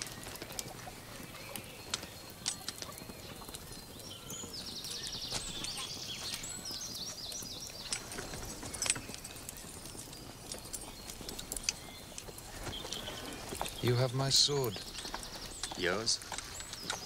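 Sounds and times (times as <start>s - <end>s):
horse hooves clopping: 0.0s - 17.0s.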